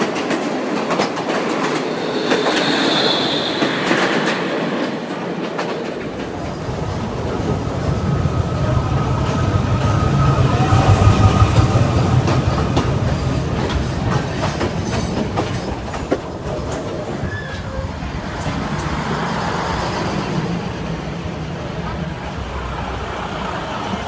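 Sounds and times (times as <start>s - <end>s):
train rumble: 0.0s - 19.8s.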